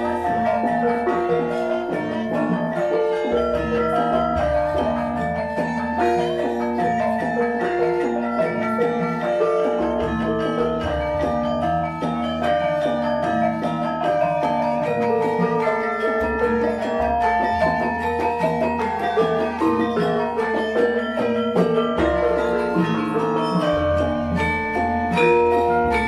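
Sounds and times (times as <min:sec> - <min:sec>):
gamelan melody on bronze keys: 0:00.0 - 0:26.0.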